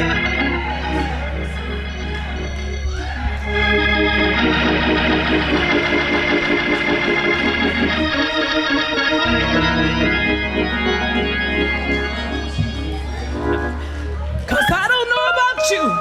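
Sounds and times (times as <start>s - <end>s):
bass line: 0.0s - 14.7s
organ playing gospel chords: 0.0s - 16.0s.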